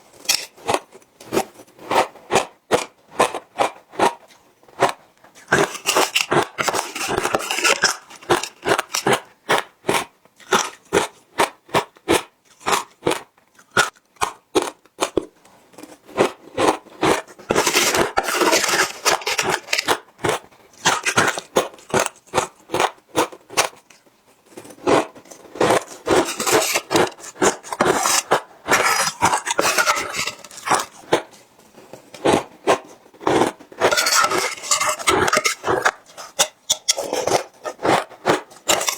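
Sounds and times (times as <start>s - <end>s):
ice crunching while chewed: 0.1s - 38.9s.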